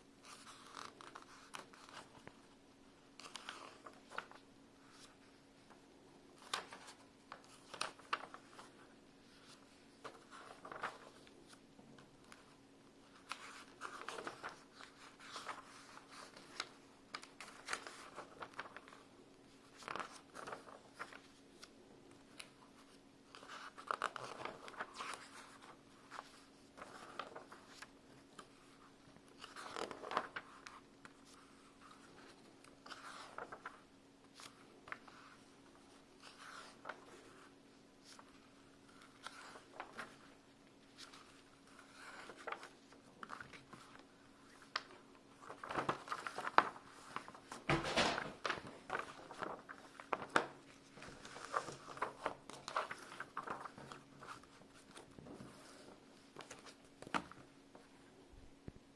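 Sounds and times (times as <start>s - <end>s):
magazine pages turning: 0.2s - 2.5s, 3.1s - 57.9s.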